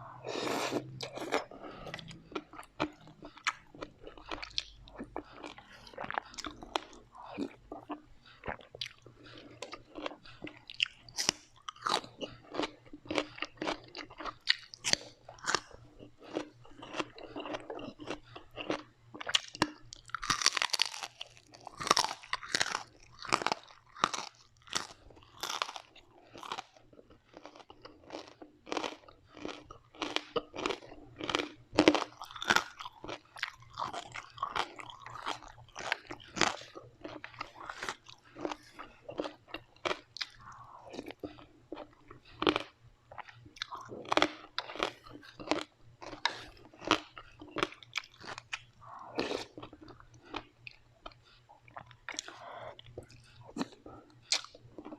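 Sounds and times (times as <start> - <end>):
chewing crunchy food: 0.0 - 54.9.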